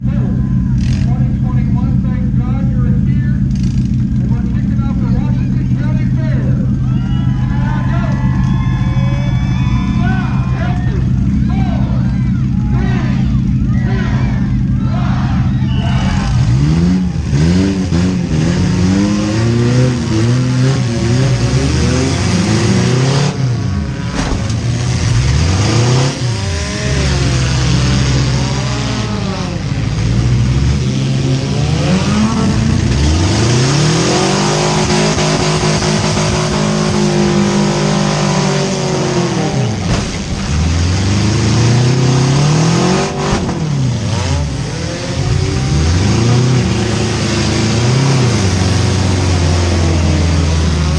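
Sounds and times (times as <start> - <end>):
car engines revving hard: 0.0 - 50.9.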